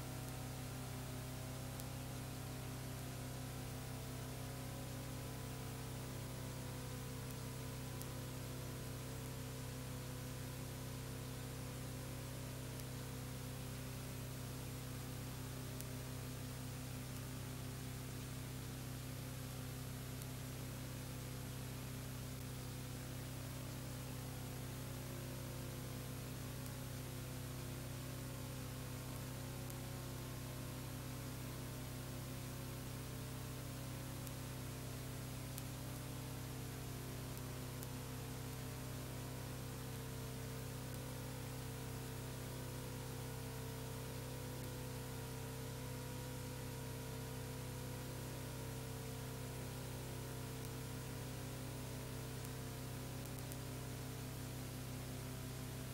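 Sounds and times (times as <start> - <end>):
low electrical hum: 0.0 - 55.9.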